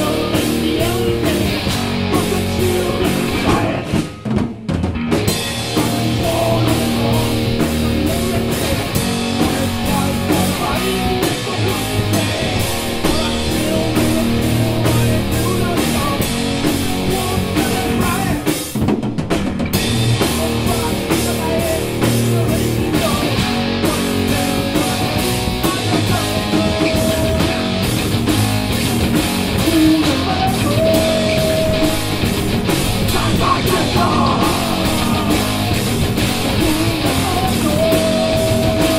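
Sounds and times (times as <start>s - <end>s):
bass guitar: 0.0s - 38.9s
distorted electric guitars: 0.0s - 38.9s
drum kit with crashing cymbals: 0.0s - 38.9s.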